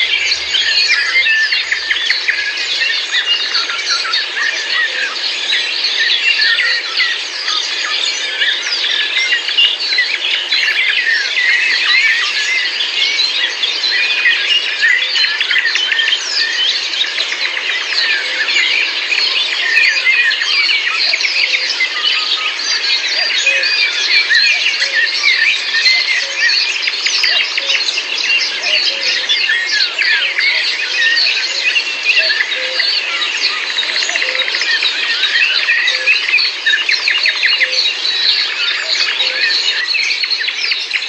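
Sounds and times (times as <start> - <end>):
songbirds chirping and whistling: 0.0 - 41.0.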